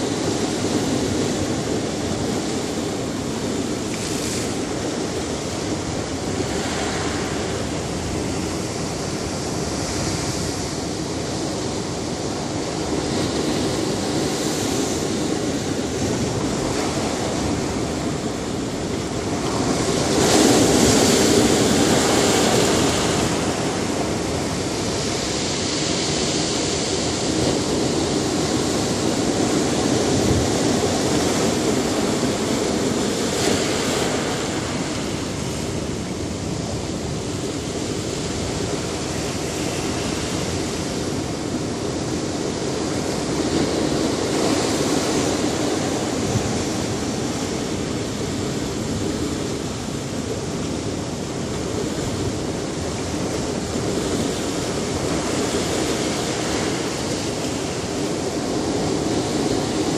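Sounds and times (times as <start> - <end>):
ocean surf breaking over rocks: 0.0 - 59.9.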